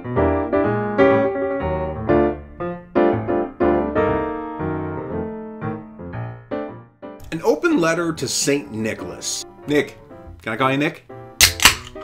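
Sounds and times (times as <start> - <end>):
piano-like keyboard music: 0.0 - 12.0.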